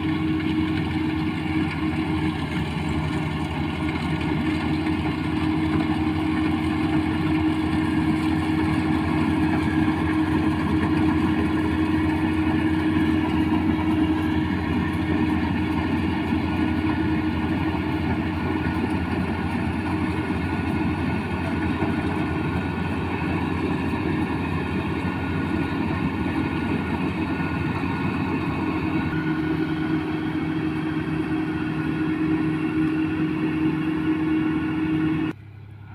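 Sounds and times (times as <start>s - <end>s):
combine harvester engine running: 0.0s - 35.9s.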